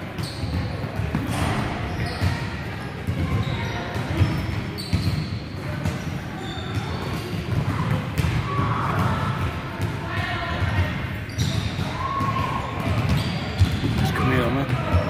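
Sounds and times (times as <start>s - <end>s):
balls kicked and bouncing on wood floor: 0.0s - 15.0s.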